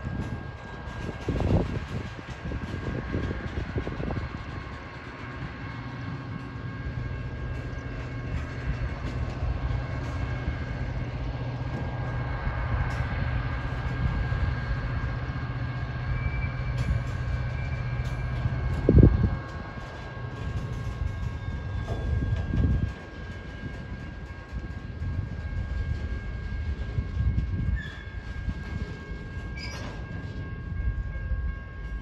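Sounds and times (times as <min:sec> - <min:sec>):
train rumble: 0:00.0 - 0:32.0.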